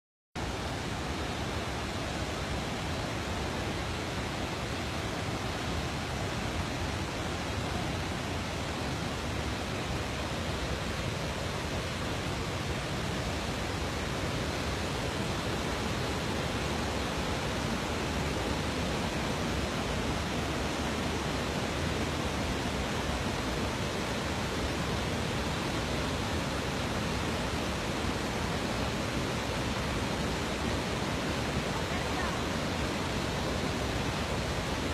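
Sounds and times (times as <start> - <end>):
river rushing over rocks: 0.4 - 34.9.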